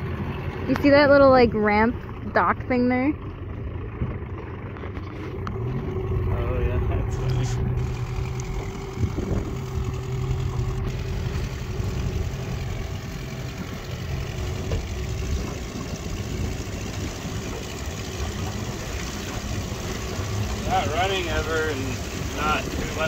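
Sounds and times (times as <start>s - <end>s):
outboard motor running: 0.0s - 23.0s
rush of wind and water: 0.0s - 23.0s.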